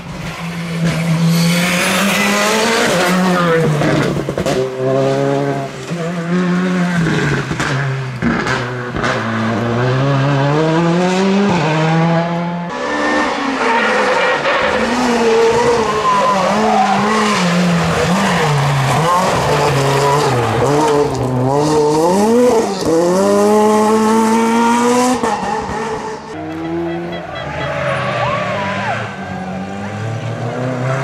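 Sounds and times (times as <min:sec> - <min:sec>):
rally car engines revving: 0:00.0 - 0:31.0.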